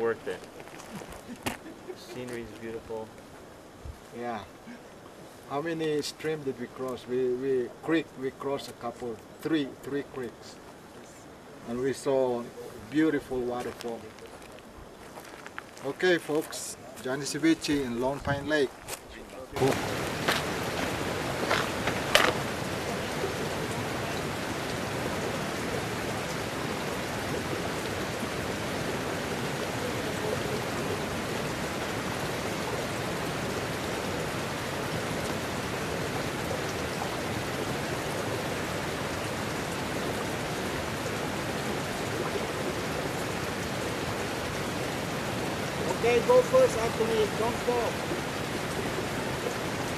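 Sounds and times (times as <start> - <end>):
mountain water rushing: 0.0 - 49.9.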